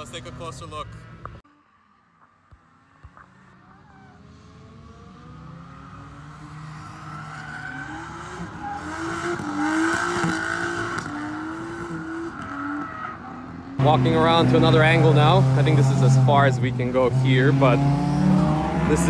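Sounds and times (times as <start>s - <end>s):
car engine revving high: 3.2s - 19.0s.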